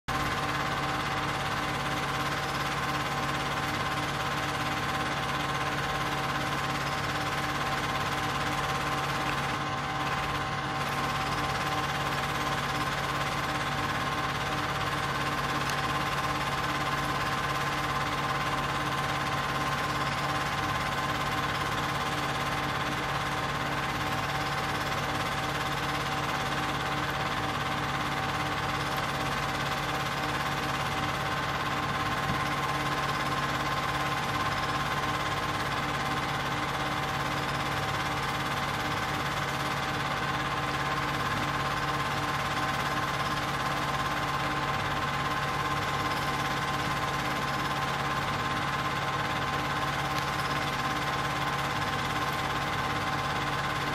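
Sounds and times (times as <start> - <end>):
film projector whirring: 0.1 - 53.9.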